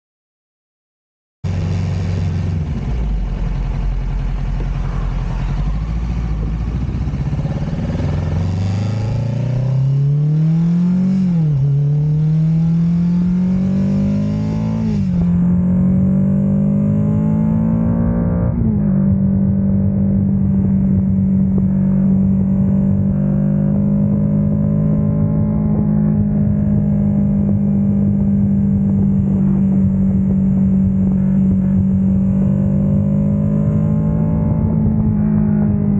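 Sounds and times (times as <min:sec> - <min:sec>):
motorcycle engine accelerating: 0:01.5 - 0:35.9.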